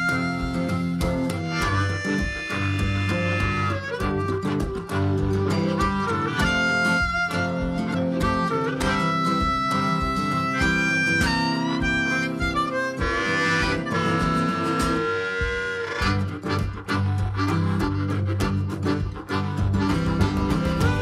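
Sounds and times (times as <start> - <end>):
harmonica melody over guitar: 0.0 - 21.0.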